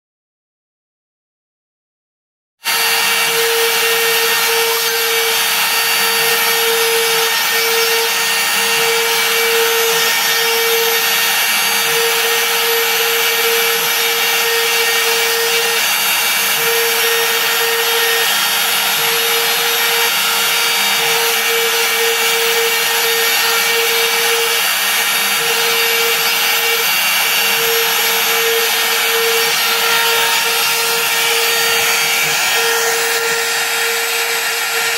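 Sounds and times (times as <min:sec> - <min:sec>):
router cutting fibreboard: 0:02.6 - 0:34.9.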